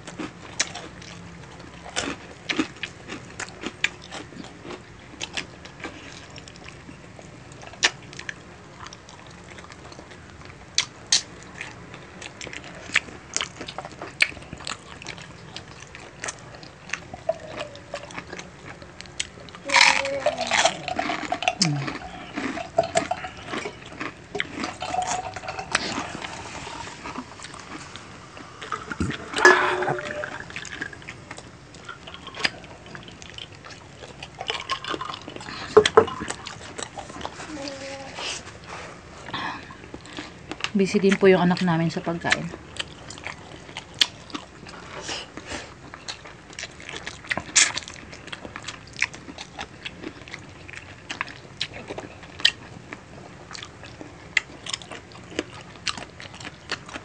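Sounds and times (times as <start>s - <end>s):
people chewing and slurping: 0.0s - 57.0s.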